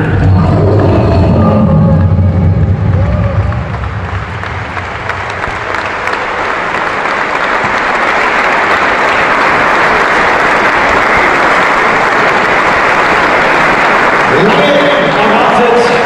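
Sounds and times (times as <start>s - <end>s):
audience applauding: 2.8s - 16.0s.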